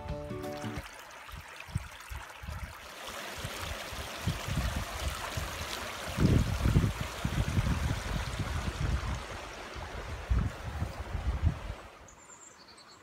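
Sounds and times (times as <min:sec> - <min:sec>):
creek trickling over rocks: 0:00.0 - 0:13.0.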